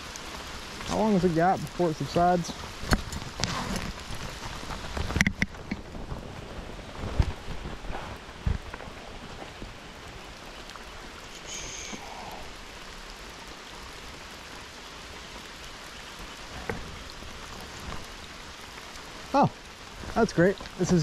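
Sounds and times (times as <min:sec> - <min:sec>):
rain hissing on water: 0:00.0 - 0:21.0.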